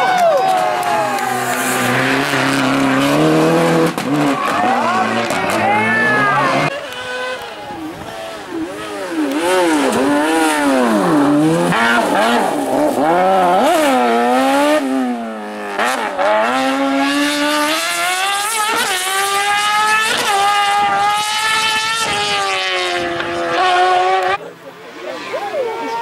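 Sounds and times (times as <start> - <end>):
rally car engine revving: 0.5 - 25.4.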